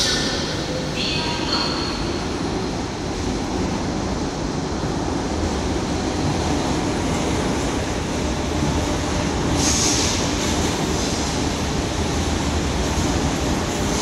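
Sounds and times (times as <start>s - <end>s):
electric train rumbling into station: 0.0s - 14.0s.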